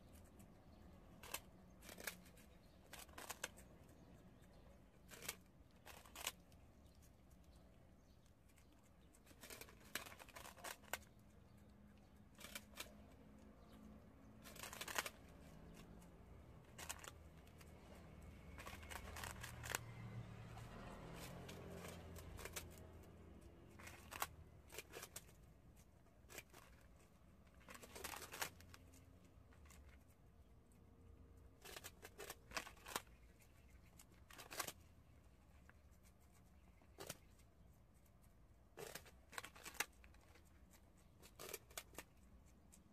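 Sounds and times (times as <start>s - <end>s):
rodents crunching rice cake: 0.0s - 42.9s.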